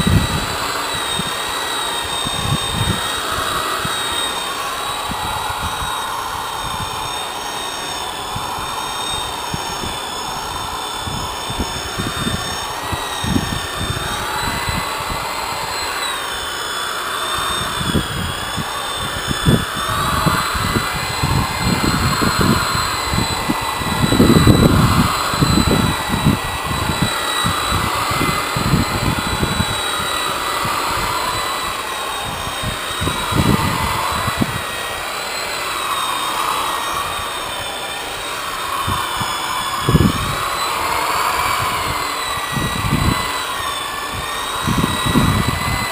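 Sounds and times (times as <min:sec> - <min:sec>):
electric polisher motor whine: 0:00.0 - 0:45.9.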